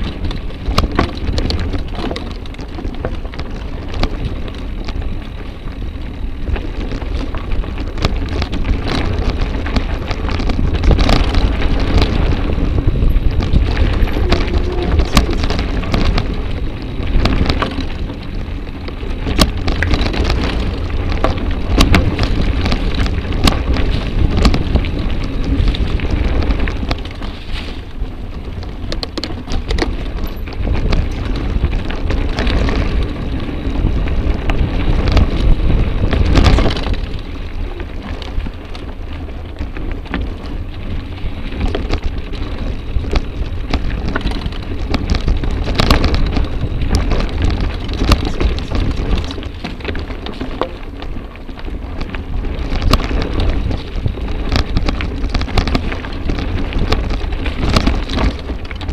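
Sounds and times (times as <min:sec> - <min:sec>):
bike rattling over rough trail: 0:00.0 - 0:58.9
wind rumble on microphone: 0:00.0 - 0:58.9.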